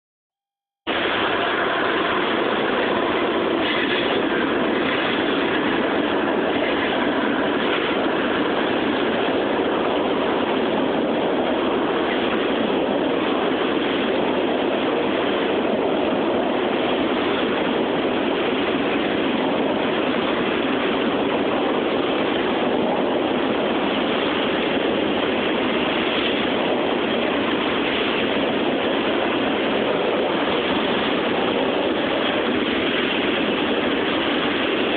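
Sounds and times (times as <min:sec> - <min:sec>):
train wheels rolling on rails: 0:00.9 - 0:34.9.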